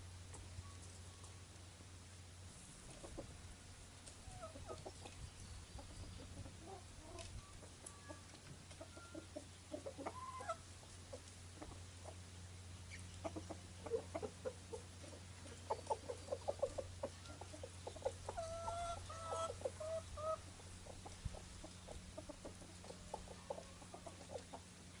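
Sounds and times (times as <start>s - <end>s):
chickens clucking: 2.8s - 25.0s.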